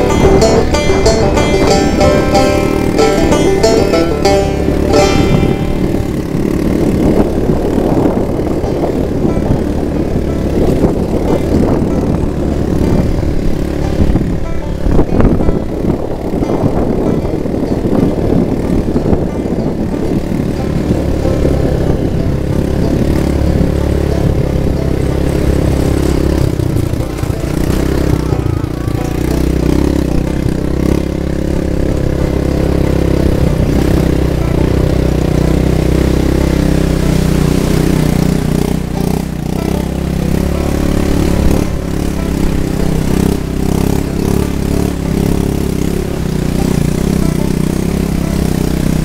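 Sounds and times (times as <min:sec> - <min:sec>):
quad bike engine running: 0:00.0 - 0:49.0.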